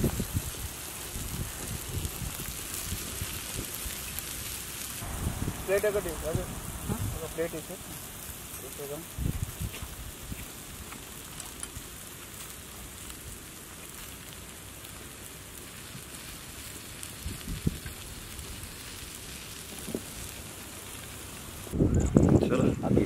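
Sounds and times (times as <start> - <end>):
rain patter: 0.0 - 23.0.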